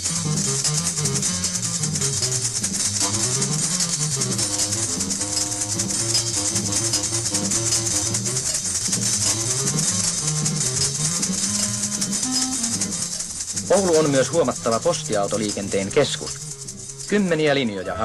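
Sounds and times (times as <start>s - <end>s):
low stepping melody: 0.0s - 18.0s
shaker-like high rattle: 0.0s - 18.0s.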